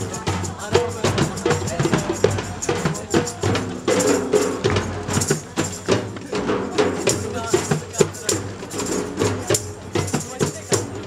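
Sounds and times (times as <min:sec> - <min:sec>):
fast busy drumming: 0:00.0 - 0:11.0
jingling hand percussion: 0:00.0 - 0:11.0.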